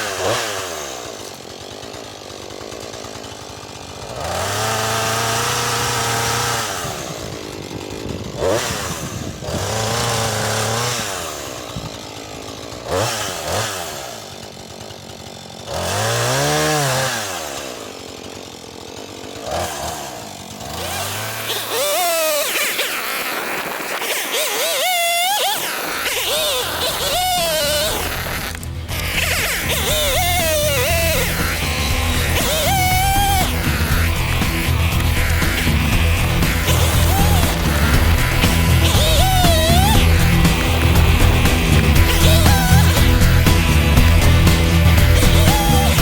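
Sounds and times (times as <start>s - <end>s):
chainsaw revving: 0.0s - 46.0s.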